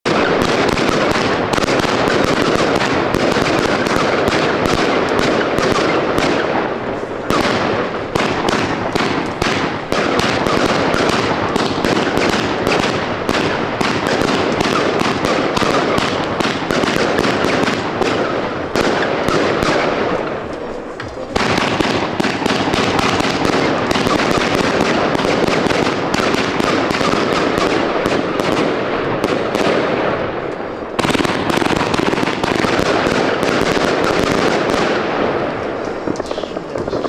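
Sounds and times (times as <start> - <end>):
fireworks crackling: 0.0 - 37.0.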